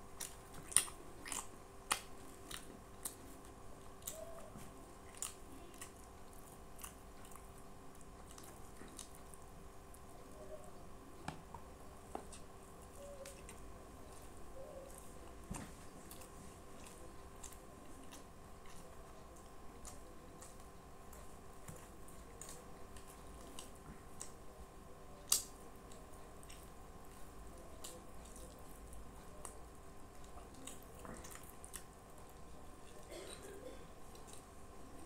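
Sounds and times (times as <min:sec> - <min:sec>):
chewing: 0:00.0 - 0:35.0.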